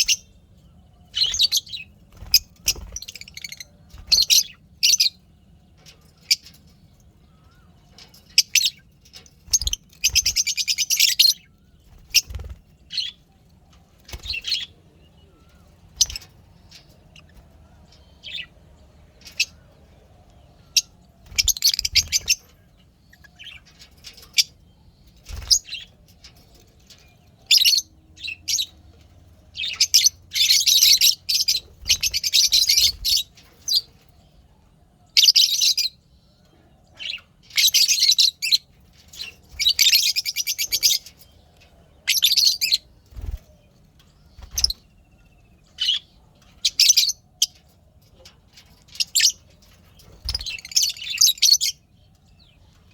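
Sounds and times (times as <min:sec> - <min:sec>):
lovebirds chirping: 0:00.0 - 0:52.9.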